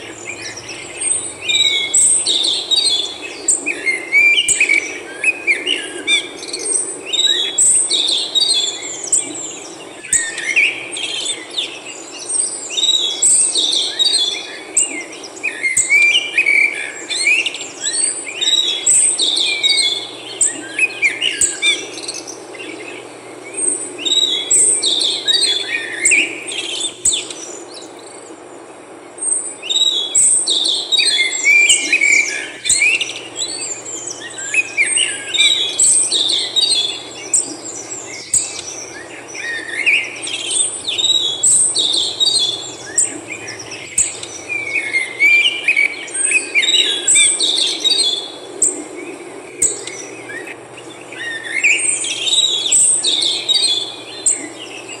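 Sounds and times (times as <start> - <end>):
songbirds chirping and singing: 0.0 - 28.7, 29.3 - 55.0
low background noise: 0.0 - 55.0.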